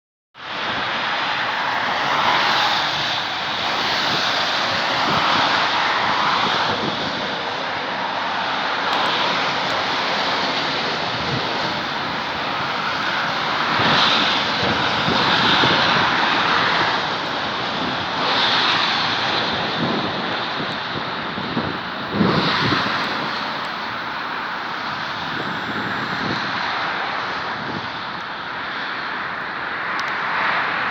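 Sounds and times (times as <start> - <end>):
airplane flying low overhead: 0.4 - 30.9
highway traffic hiss: 0.4 - 30.9.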